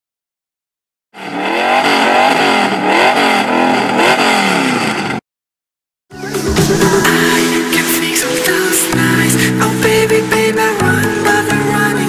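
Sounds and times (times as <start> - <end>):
car engine revving: 1.2 - 5.2, 6.2 - 12.0.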